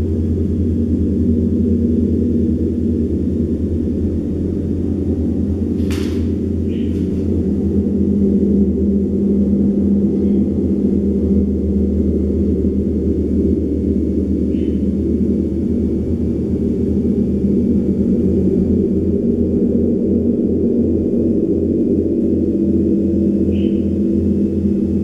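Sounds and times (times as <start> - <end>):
giant gong deep drone: 0.0 - 25.0.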